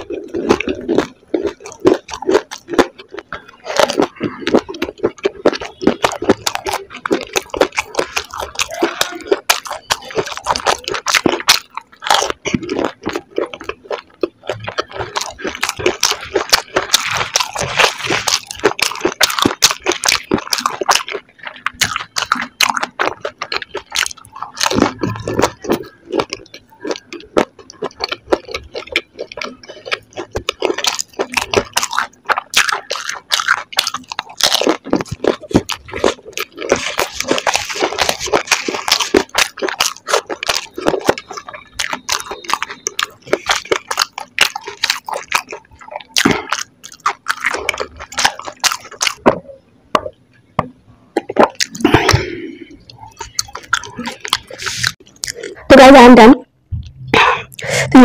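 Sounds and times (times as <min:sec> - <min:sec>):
crunching and chewing food: 0:00.0 - 0:58.0.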